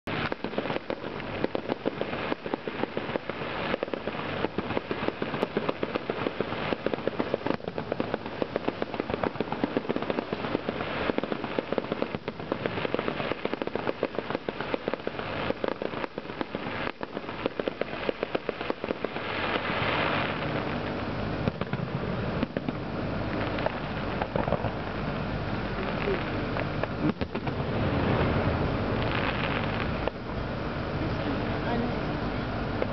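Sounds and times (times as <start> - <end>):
fireworks bursting and crackling: 0.0 - 32.9.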